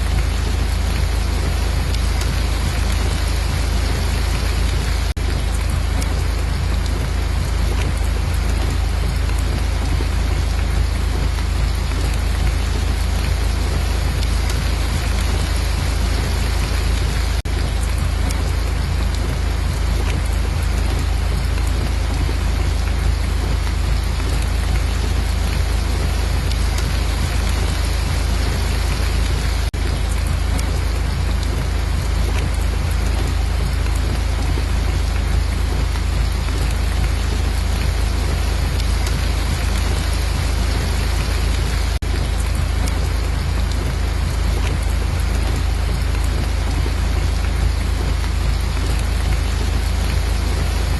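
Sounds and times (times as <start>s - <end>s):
deep rumble: 0.0s - 50.9s
steady rain falling: 0.0s - 50.9s.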